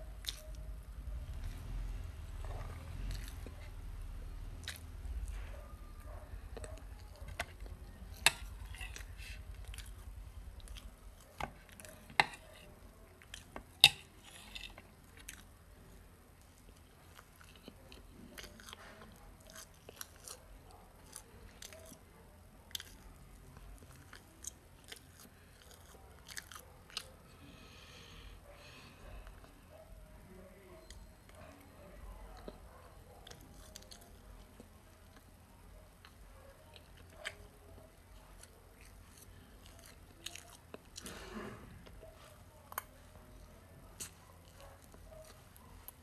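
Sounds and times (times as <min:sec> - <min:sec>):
child chewing with mouth clicks: 0:00.0 - 0:46.0.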